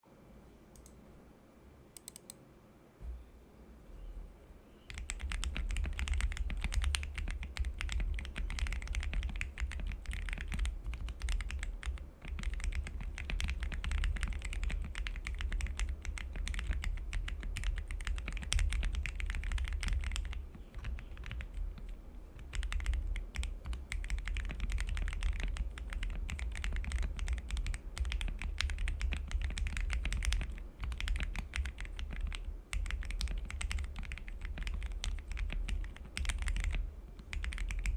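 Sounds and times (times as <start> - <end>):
mechanical keyboard typing: 2.0 - 2.4, 4.9 - 37.9.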